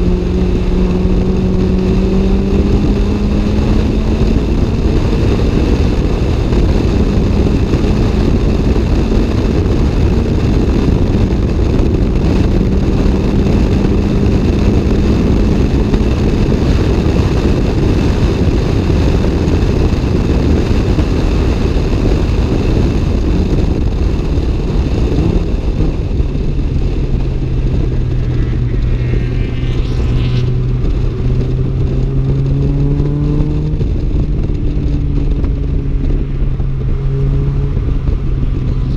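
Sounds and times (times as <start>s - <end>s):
car engine running hard: 0.0s - 38.9s
wind and road noise: 0.0s - 38.9s.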